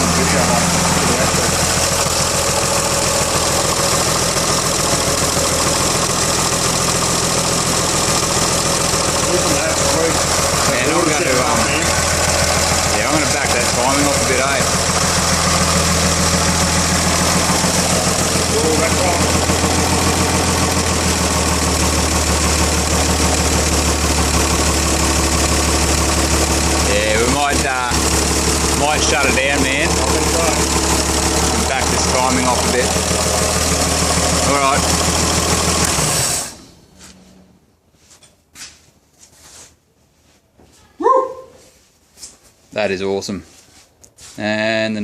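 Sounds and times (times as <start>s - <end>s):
car engine idling: 0.0s - 37.7s.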